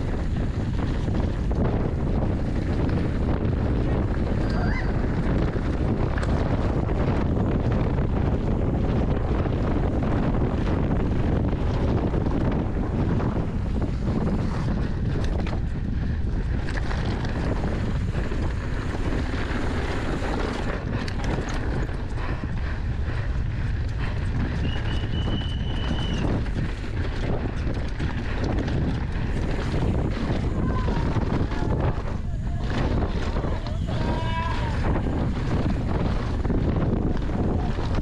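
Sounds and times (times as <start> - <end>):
mountain bike rattling: 0.0 - 38.0
wind buffeting microphone: 0.0 - 38.0.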